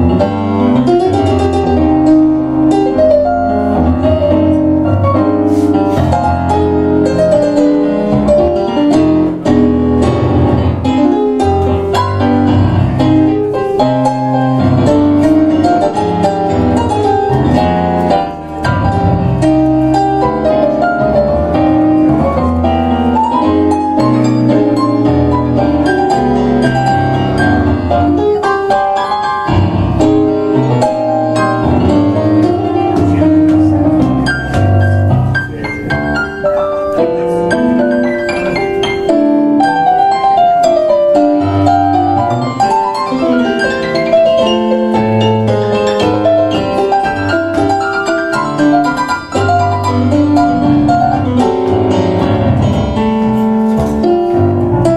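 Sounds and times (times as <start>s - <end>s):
piano duet playing a tango: 0.0s - 54.9s.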